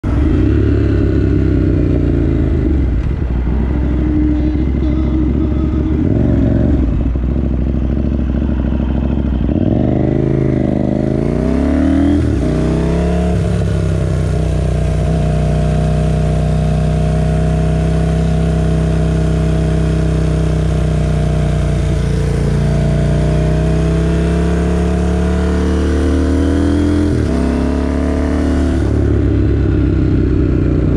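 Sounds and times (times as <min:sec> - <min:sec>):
motorcycle engine: 0:00.0 - 0:30.9.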